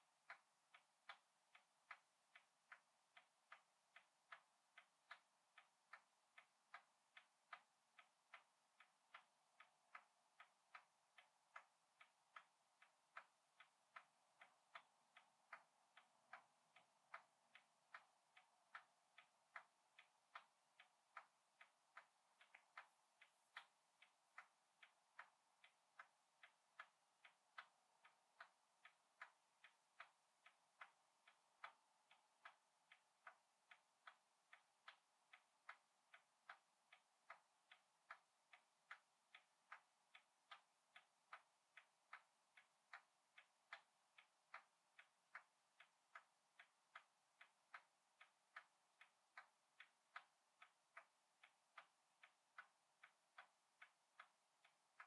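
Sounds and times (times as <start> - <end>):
faint steady ticking: 0.0 - 55.0.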